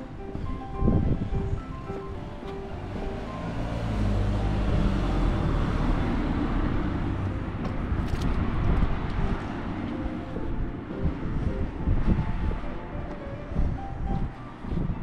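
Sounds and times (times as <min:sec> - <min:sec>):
vehicle engine rumbling past: 0:00.0 - 0:15.0.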